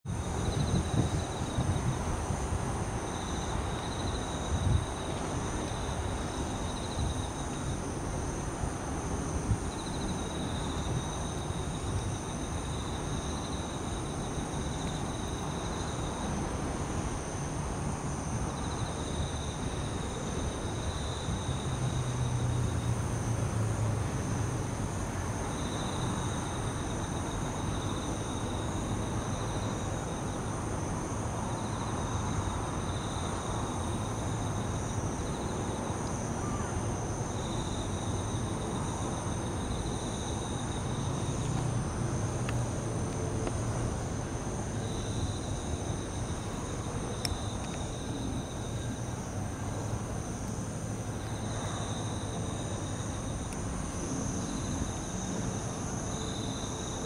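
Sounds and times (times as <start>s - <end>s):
crickets singing: 0.1s - 57.0s
distant city traffic hum: 0.1s - 57.0s.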